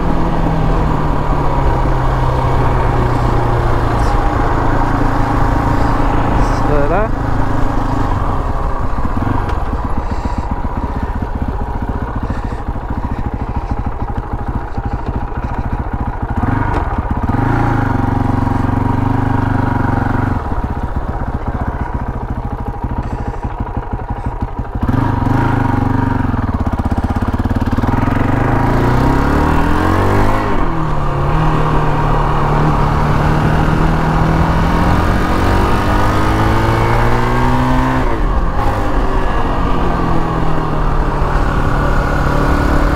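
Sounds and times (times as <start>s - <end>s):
quad engine revving: 0.0s - 42.9s.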